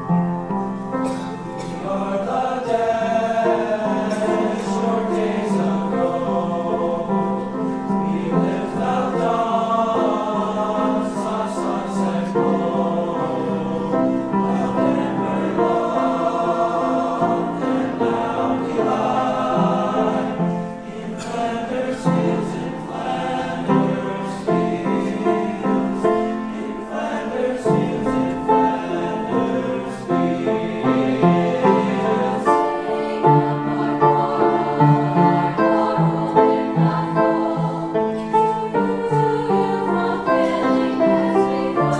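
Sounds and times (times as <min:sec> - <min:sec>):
mixed choir singing: 0:00.0 - 0:41.9.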